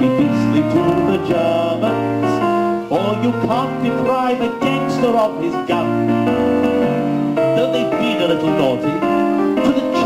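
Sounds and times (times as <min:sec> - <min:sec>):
man singing into a microphone: 0:00.0 - 0:06.1, 0:07.6 - 0:10.0
keyboard accompaniment: 0:00.0 - 0:10.0.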